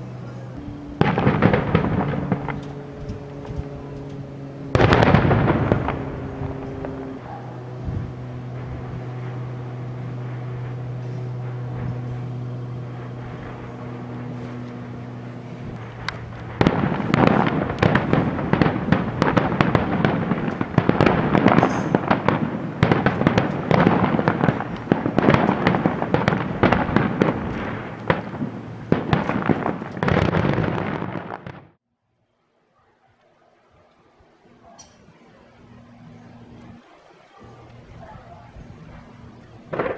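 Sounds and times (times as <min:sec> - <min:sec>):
fireworks bangs and crackles: 0:00.0 - 0:31.8, 0:35.1 - 0:39.9
steady low hum: 0:00.0 - 0:31.8, 0:34.3 - 0:39.9.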